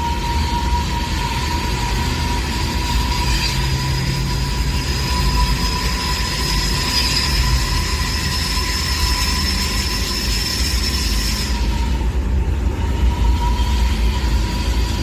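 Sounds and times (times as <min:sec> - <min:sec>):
high whine and hiss: 0:00.0 - 0:15.0
train rumbling: 0:00.0 - 0:15.0.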